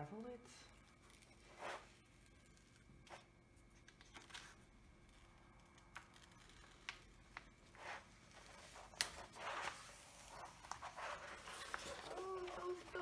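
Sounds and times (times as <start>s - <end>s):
paper peeling and crinkling: 0.7s - 13.0s.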